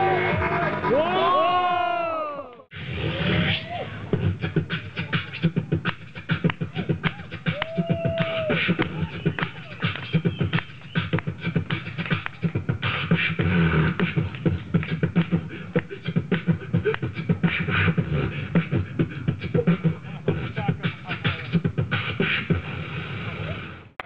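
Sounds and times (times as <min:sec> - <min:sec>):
beatboxing into a microphone: 0:02.7 - 0:23.9.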